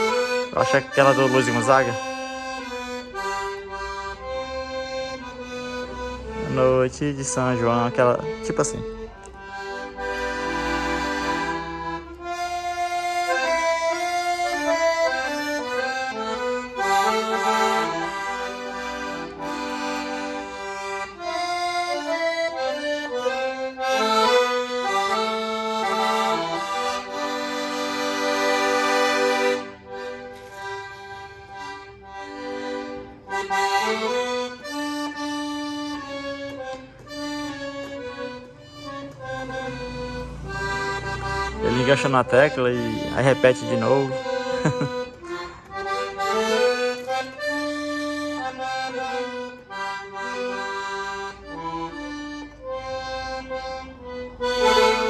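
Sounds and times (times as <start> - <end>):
solo accordion playing: 0.0 - 55.0.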